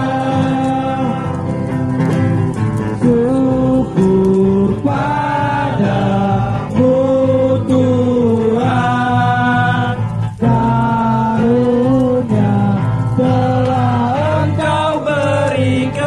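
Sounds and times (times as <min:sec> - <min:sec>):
voices singing held notes: 0:00.0 - 0:01.8, 0:02.9 - 0:16.0.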